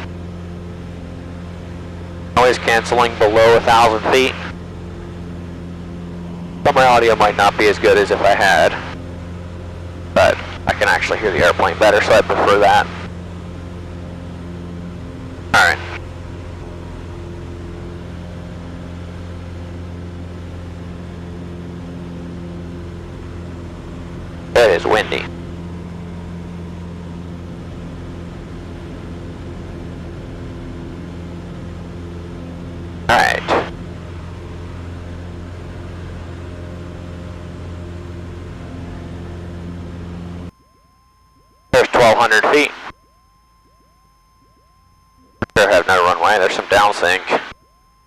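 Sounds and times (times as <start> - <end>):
aircraft engine and propeller droning: 0.0 - 41.0, 45.4 - 47.6
faint steady tone: 0.0 - 48.0.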